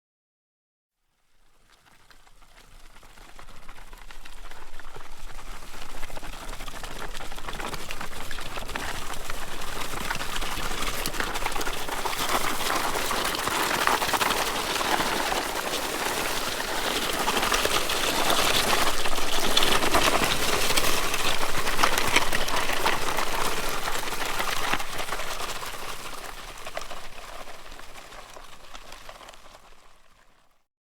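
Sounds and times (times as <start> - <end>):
object dragged across gravel: 2.3 - 29.9.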